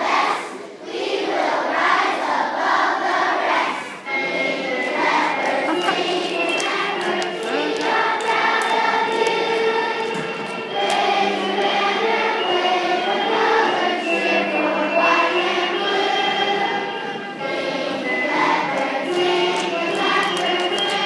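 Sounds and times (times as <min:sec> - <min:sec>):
children singing in unison: 0:00.0 - 0:21.0.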